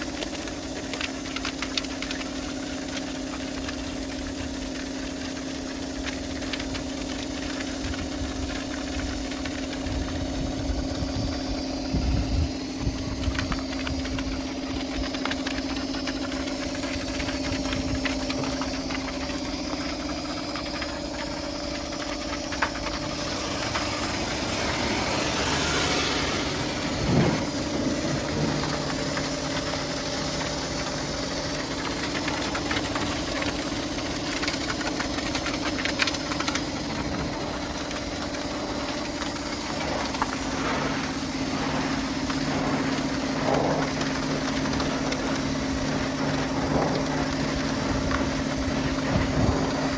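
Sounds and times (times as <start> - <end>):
pressure washer humming: 0.0 - 49.9
water jet hissing: 0.0 - 49.9.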